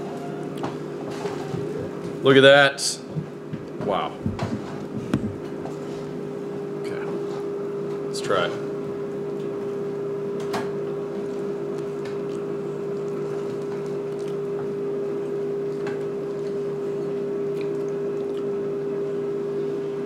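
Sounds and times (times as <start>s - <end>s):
kitchen appliance humming: 0.0s - 20.0s.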